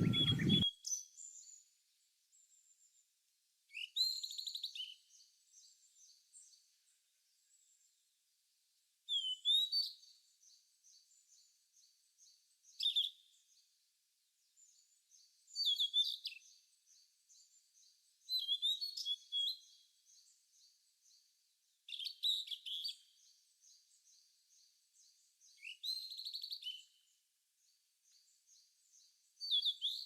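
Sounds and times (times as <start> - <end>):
bird twittering song: 0.0 - 1.7, 3.7 - 6.7, 9.1 - 30.0
faint rhythmic bird chirping: 0.0 - 30.0.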